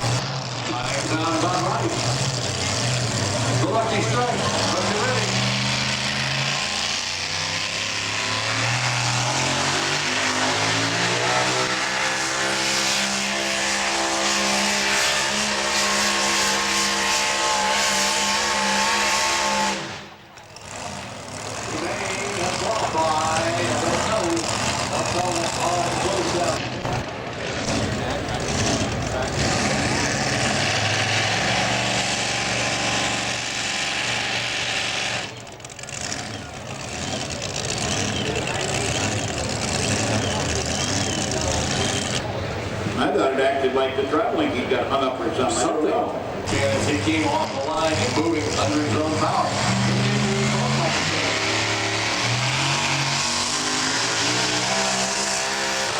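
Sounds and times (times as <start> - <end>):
truck engine at full throttle: 0.0 - 55.9.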